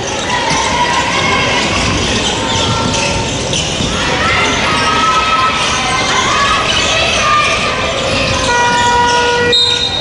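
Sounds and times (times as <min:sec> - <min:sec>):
crowd calling and cheering: 0:00.0 - 0:10.0.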